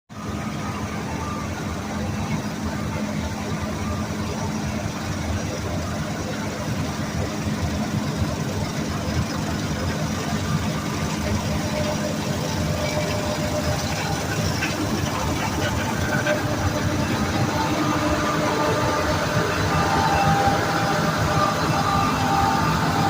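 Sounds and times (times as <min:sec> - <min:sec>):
large engine running steadily: 0:00.1 - 0:23.0.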